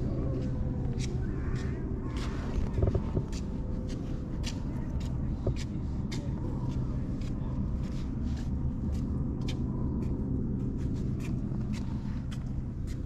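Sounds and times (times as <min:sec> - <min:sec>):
faint steady hum: 0:00.0 - 0:13.0
steady low rumble: 0:00.0 - 0:13.0.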